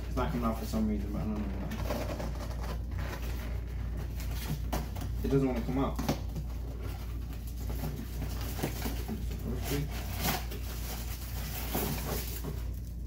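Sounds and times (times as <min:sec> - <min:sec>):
plastic and cardboard rustling: 0:00.0 - 0:13.0
steady low hum: 0:00.0 - 0:13.0.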